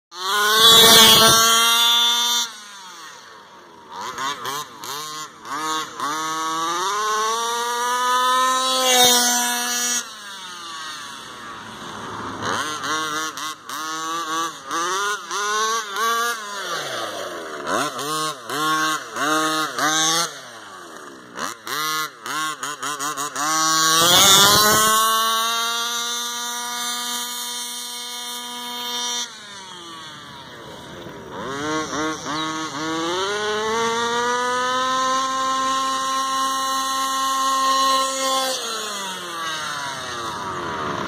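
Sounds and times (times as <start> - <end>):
small two-stroke engine revving: 0.1 - 41.0.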